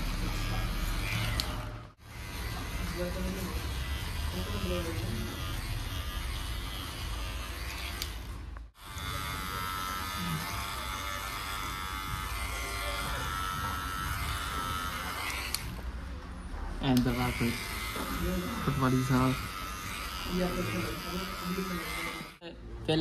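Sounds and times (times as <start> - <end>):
electric hair clippers buzzing: 0.0 - 15.8, 16.9 - 22.4.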